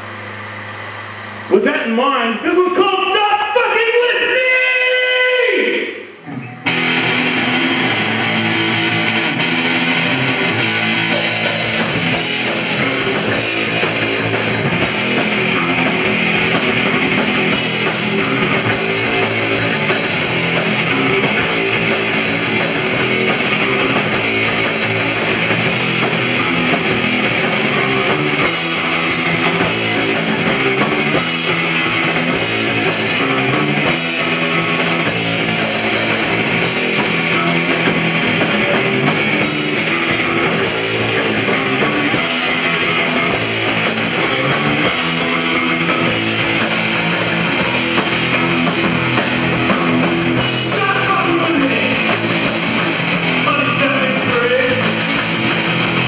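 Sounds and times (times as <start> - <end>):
drums with cymbals: 0.0 - 1.6, 10.5 - 56.0
bass guitar: 0.0 - 56.0
electric guitar: 3.4 - 56.0.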